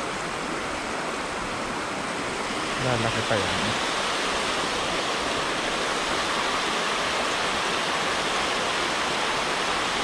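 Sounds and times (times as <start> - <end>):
river water pouring over weir: 0.0 - 10.0.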